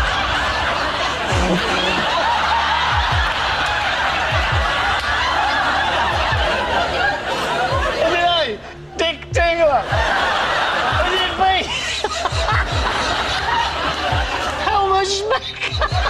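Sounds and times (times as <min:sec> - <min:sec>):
people laughing together: 0:00.0 - 0:08.8, 0:09.7 - 0:16.0.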